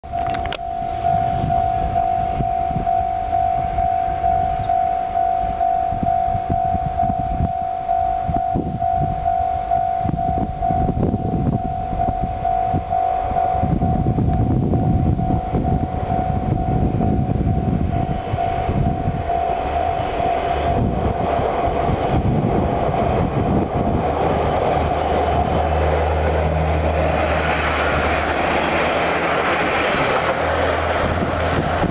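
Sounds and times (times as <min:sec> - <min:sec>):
diesel railcar engine drone: 0:00.0 - 0:31.9
low rumble: 0:00.0 - 0:31.9
level-crossing alarm bell: 0:00.1 - 0:26.2
wheel and track noise: 0:00.1 - 0:31.9.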